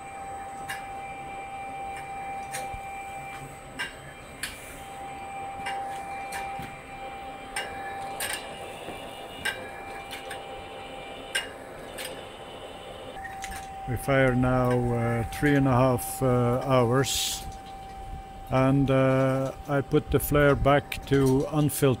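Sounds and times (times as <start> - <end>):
gas flare burning with hum: 0.0 - 22.0.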